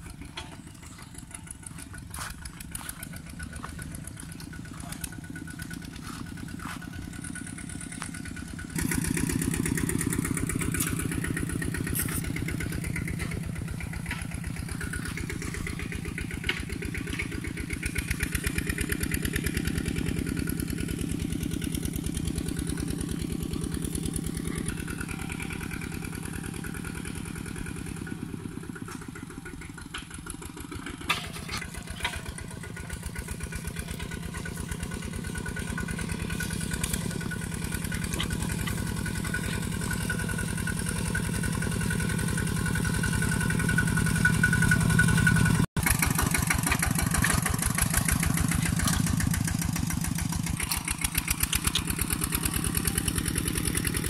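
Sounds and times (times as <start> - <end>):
walking tractor engine thudding: 0.0 - 54.0.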